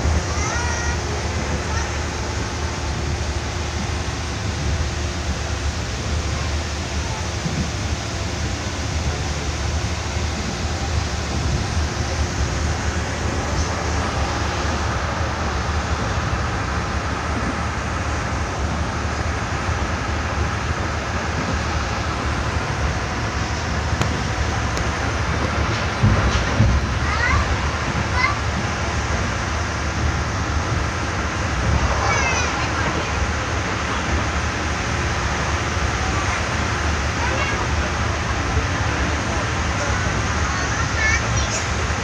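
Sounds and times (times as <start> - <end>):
rushing noise: 0.0 - 42.0
train rumbling along track: 0.0 - 42.0.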